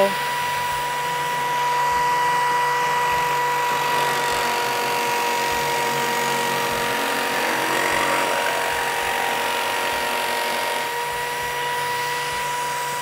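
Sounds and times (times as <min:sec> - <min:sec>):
electric drill cutting sheet metal: 0:00.0 - 0:13.0.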